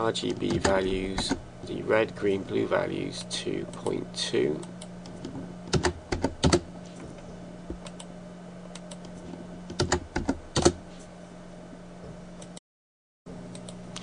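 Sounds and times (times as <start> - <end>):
steady low hum: 0.0 - 12.6, 13.3 - 14.0.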